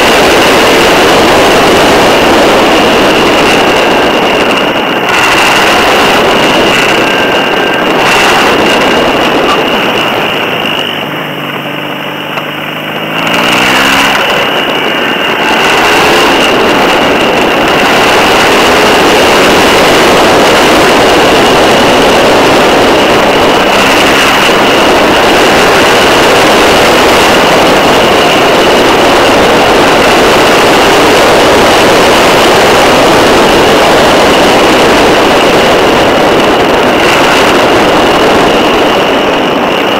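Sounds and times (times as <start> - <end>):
motorcycle engine rising: 0.0 - 39.9
steady high whine: 0.0 - 39.9
wind and tyre rush: 0.0 - 39.9.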